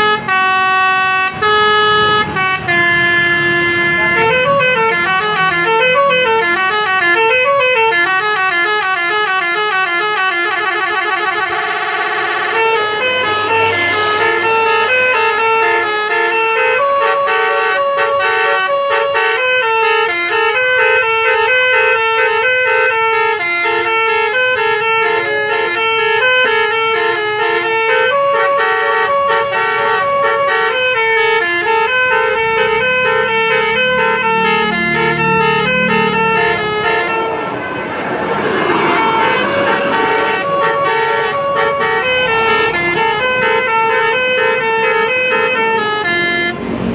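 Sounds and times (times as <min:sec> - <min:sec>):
bus horn playing a tune: 0:00.0 - 0:46.9.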